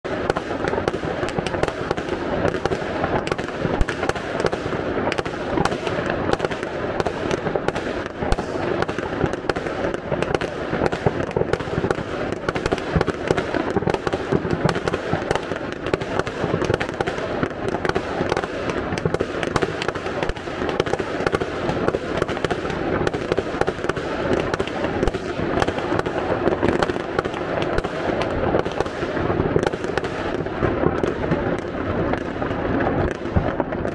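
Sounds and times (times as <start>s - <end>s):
fireworks crackling and banging: 0.0s - 33.9s.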